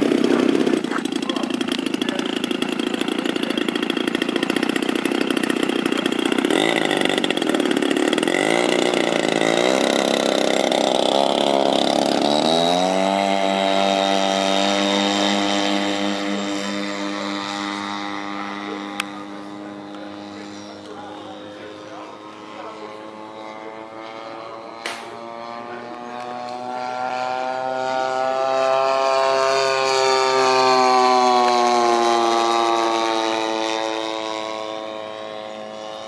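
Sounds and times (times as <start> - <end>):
model airplane engine: 0.0 - 36.0.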